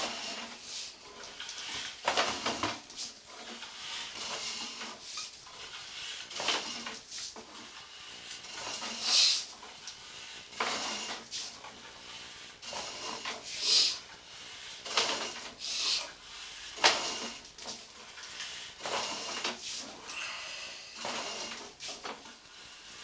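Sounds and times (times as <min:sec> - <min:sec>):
metal cable clattering and scraping: 0:00.0 - 0:23.0.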